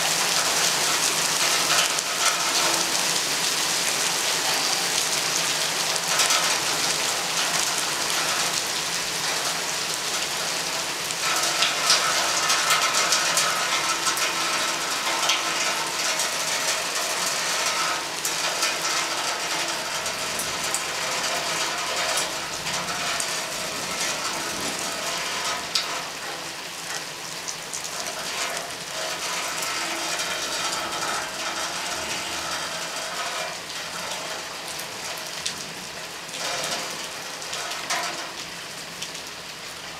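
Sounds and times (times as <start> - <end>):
rain patter on hard surface: 0.0 - 39.9.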